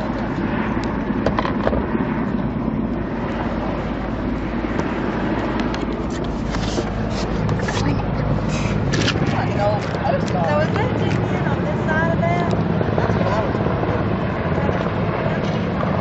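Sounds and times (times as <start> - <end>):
city traffic: 0.0 - 16.0
helicopter flying overhead: 0.0 - 16.0.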